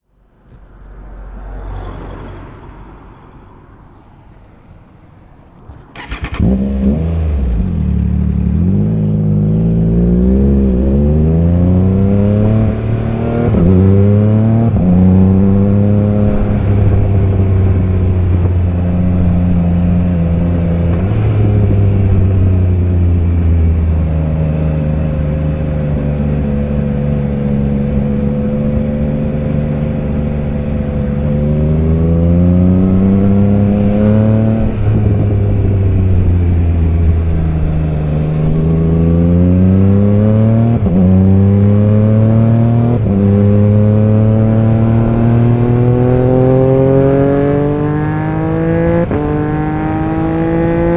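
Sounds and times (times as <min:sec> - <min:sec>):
motorcycle engine accelerating: 0:06.0 - 0:50.9.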